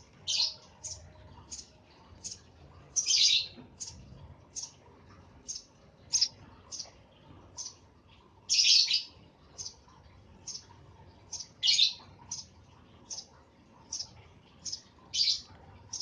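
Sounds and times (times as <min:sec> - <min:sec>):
sparrow chirping: 0:00.0 - 0:04.8, 0:05.4 - 0:07.0, 0:07.6 - 0:07.8, 0:08.4 - 0:09.8, 0:10.4 - 0:10.7, 0:11.3 - 0:16.0.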